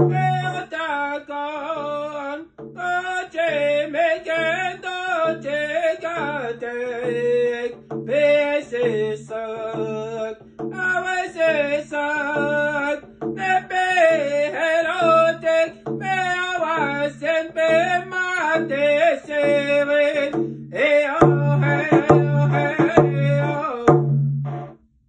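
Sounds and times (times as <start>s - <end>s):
hand drum beating: 0.0s - 0.8s, 1.6s - 24.7s
man singing: 0.0s - 24.7s.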